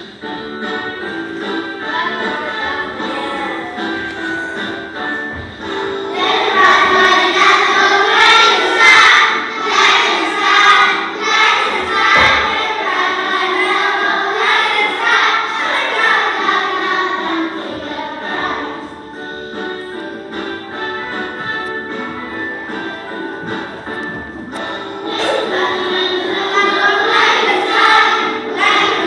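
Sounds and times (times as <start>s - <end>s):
musical accompaniment: 0.0s - 29.0s
children singing together: 1.4s - 20.6s, 24.6s - 29.0s.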